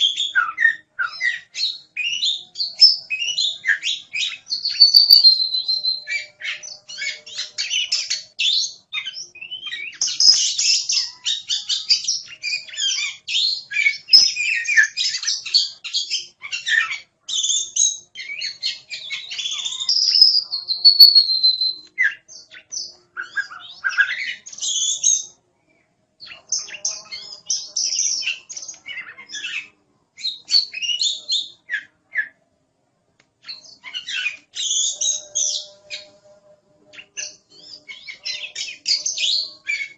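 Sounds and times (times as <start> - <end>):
songbird singing: 0.0 - 32.4, 33.4 - 39.9.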